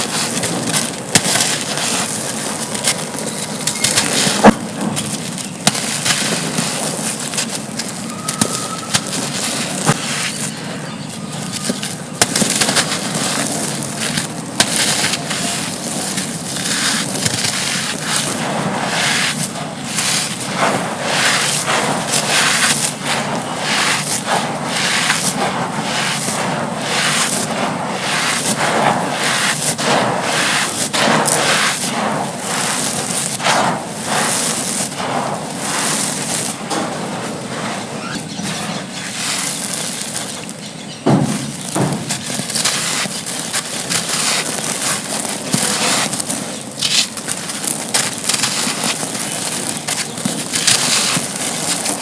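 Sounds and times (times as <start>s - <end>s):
sand slabs crunching and crumbling: 0.0s - 52.0s.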